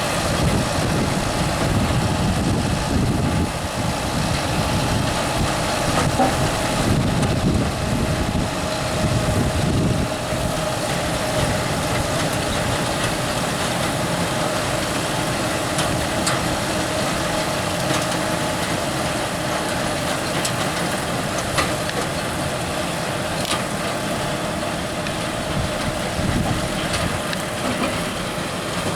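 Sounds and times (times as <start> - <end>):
tractor and harvester running: 0.0 - 28.9.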